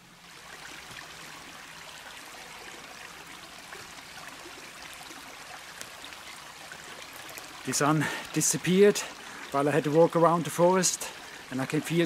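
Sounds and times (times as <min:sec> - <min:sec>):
forest stream rushing: 0:00.0 - 0:12.0.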